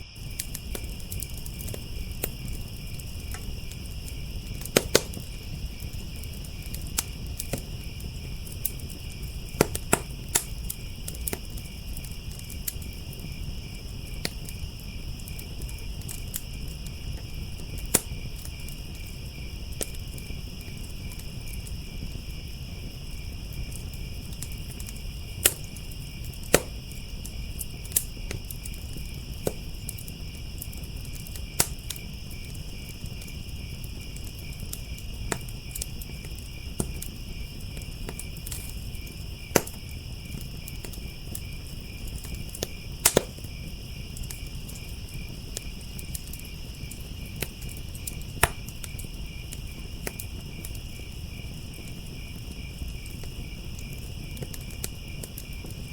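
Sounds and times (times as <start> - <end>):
crickets chirping: 0.0 - 55.9
wood fire crackling: 0.0 - 55.9.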